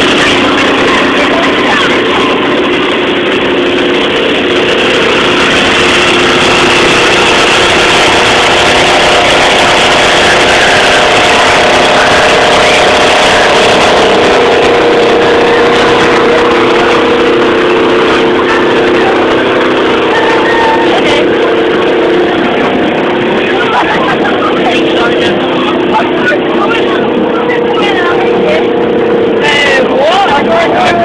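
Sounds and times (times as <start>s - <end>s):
electric air blower humming: 0.0s - 26.3s.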